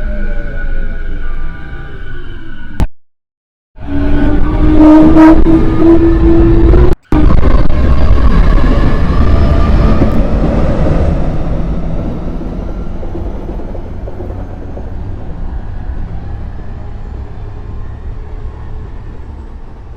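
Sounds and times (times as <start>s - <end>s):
train rumbling along track: 3.8s - 19.9s.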